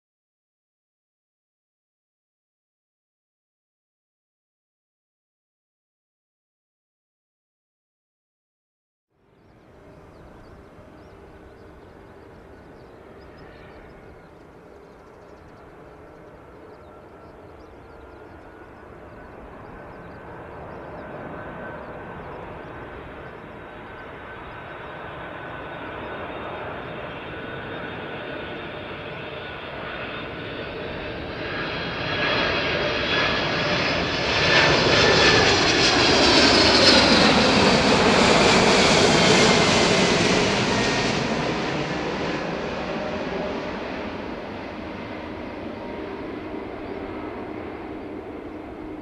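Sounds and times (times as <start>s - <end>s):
jet airliner engines whining: 9.4s - 49.0s.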